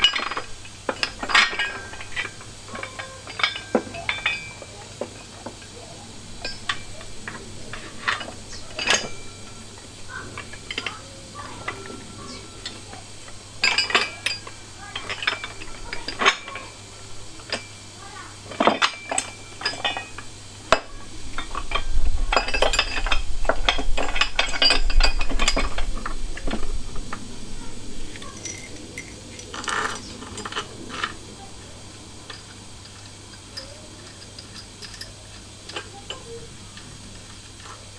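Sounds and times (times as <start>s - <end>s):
metal bolts and washers clinking: 0.0s - 16.8s, 17.4s - 37.9s
low rumble of parts handled: 0.0s - 37.9s.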